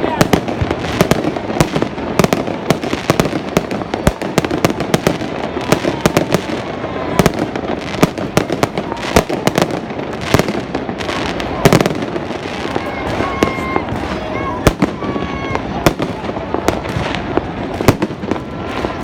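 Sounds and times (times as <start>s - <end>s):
fireworks bangs: 0.0s - 19.0s
fireworks crackle: 0.0s - 19.0s.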